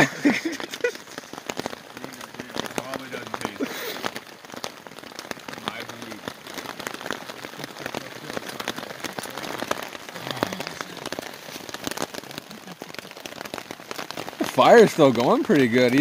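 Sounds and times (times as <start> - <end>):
heavy rain falling: 0.0 - 16.0
raindrops ticking: 0.0 - 16.0.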